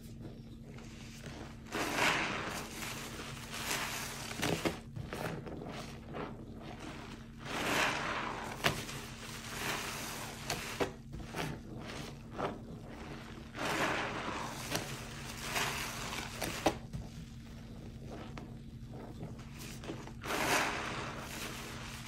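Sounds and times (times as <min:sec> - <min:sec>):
sponge squelching in foam: 0:00.0 - 0:22.0.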